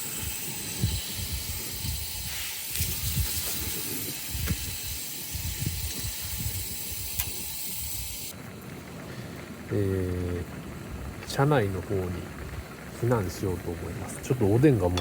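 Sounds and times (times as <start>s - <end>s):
wind buffeting microphone: 0.0s - 8.2s, 10.4s - 15.0s
steady high hiss: 0.0s - 15.0s.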